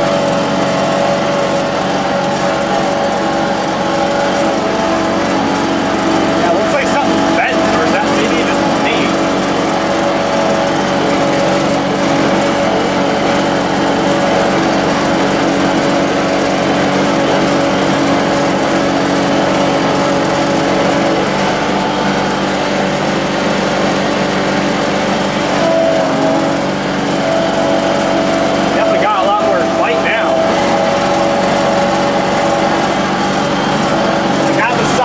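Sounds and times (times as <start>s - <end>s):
garden tractor engine running: 0.0s - 35.0s.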